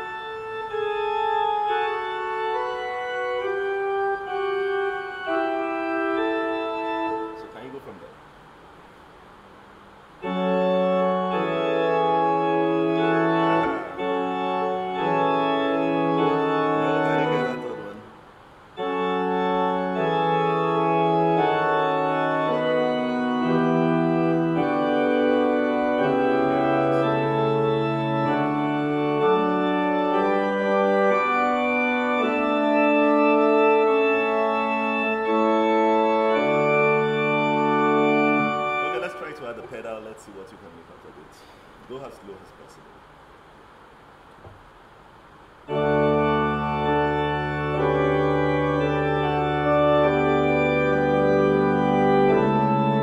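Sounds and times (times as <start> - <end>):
church organ chords: 0.0 - 42.8, 45.2 - 53.0.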